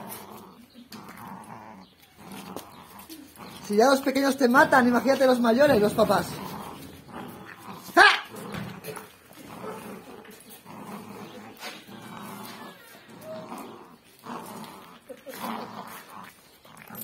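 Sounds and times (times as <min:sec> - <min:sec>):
puppies growling: 0:00.0 - 0:17.0.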